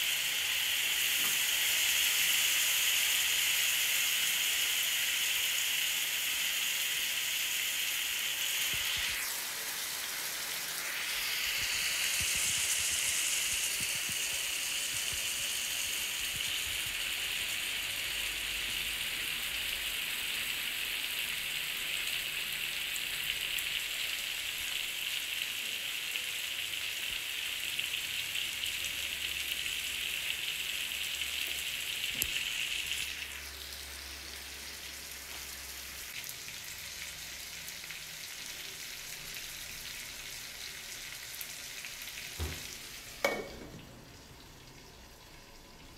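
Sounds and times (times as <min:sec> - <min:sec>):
chicken sizzling in a pan: 0:00.0 - 0:45.9.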